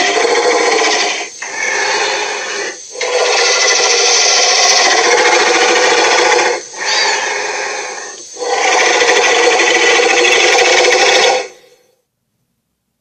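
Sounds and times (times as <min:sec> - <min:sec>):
buzzy monster growl: 0:00.0 - 0:11.6.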